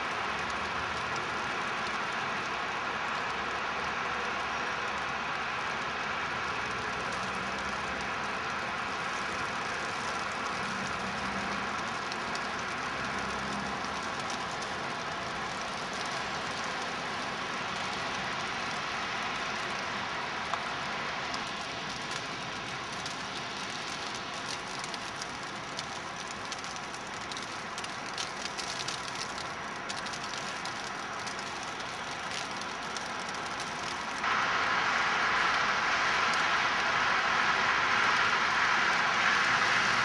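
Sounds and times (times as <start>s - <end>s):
snowfall hiss: 0.0s - 40.0s.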